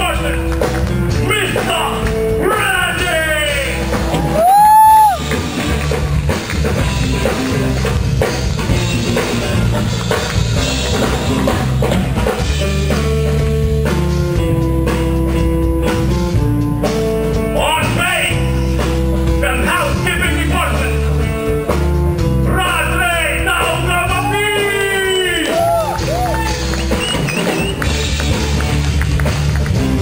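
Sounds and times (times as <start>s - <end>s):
drum kit beat: 0.0s - 30.0s
guitar: 0.0s - 30.0s.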